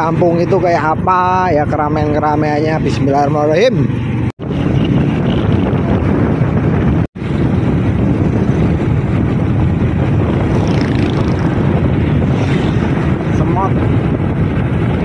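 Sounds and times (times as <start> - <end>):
vehicle engine and road noise: 0.0 - 15.0
wind rushing on microphone: 0.0 - 15.0.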